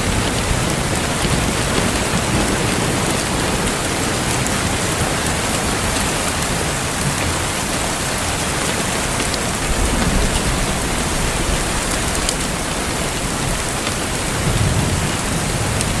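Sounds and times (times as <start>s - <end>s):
heavy rain falling: 0.0s - 16.0s
raindrops ticking close by: 0.0s - 16.0s.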